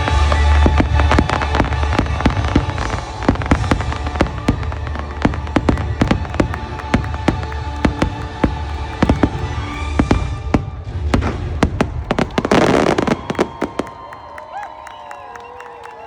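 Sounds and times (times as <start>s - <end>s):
show music: 0.0s - 14.2s
fireworks bangs: 0.0s - 14.8s
fireworks crackling: 0.0s - 15.0s
crowd cheering: 0.0s - 16.0s.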